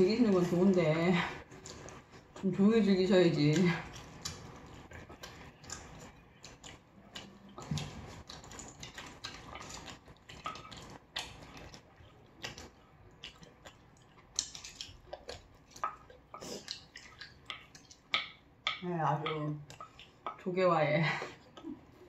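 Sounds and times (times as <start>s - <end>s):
chewing: 0.0s - 20.5s, 21.2s - 22.0s.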